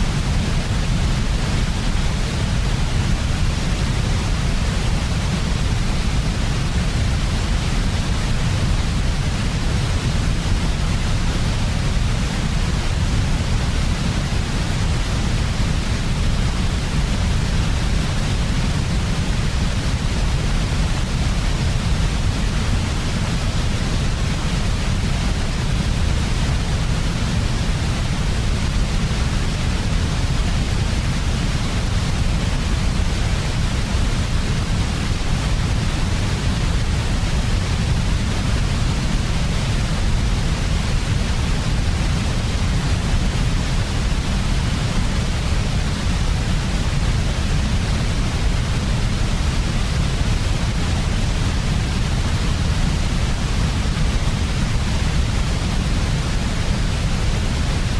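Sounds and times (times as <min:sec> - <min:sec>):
white noise: 0:00.0 - 0:57.9.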